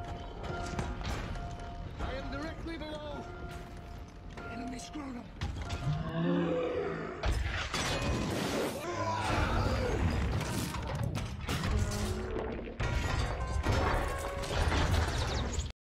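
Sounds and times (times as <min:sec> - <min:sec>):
background music: 0:00.0 - 0:15.3.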